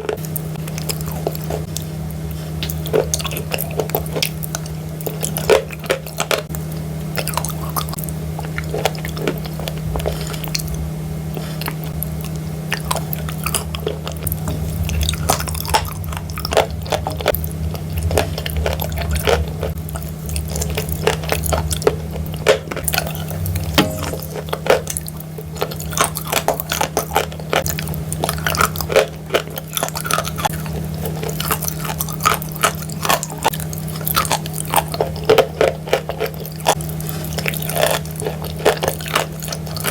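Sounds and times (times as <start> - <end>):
steady low hum: 0.0 - 33.8.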